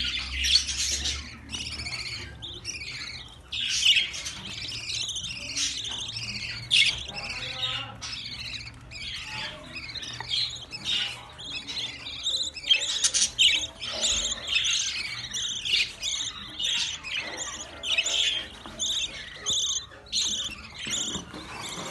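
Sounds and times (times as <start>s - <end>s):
budgerigars chirping and squawking: 0.0s - 21.9s.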